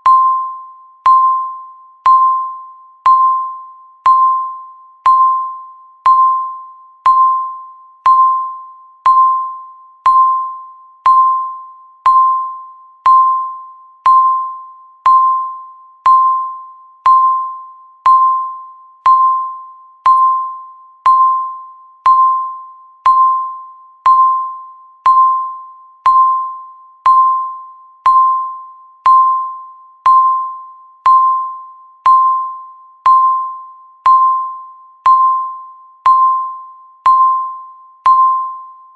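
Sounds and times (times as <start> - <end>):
timer beeping: 0.0 - 38.9.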